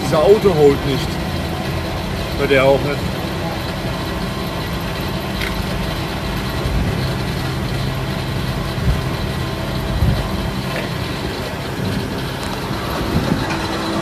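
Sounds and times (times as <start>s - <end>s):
fuel pump humming: 0.0s - 14.0s
low bumps: 0.0s - 14.0s.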